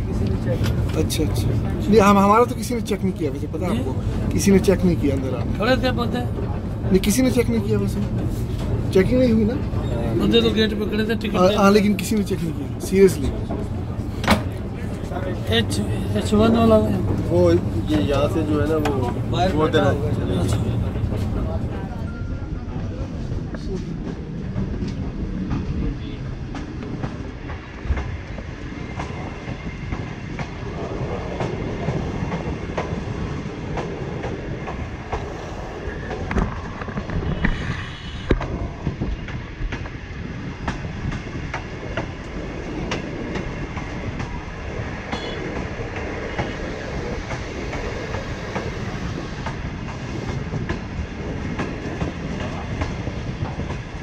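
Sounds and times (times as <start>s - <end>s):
passenger train rumbling: 0.0s - 54.0s.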